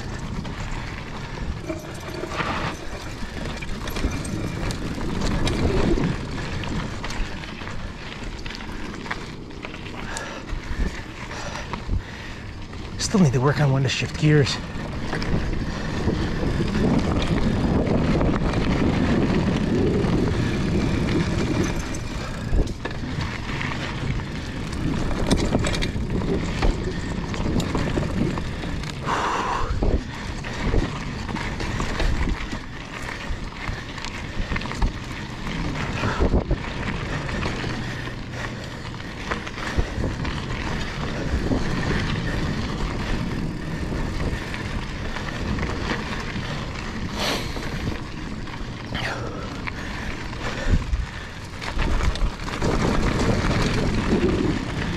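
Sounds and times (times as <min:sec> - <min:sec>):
wind on microphone: 0:00.0 - 0:08.8, 0:14.6 - 0:54.9
bike rattling over bumps: 0:00.0 - 0:54.9
bike tyres running through sand: 0:00.0 - 0:54.9.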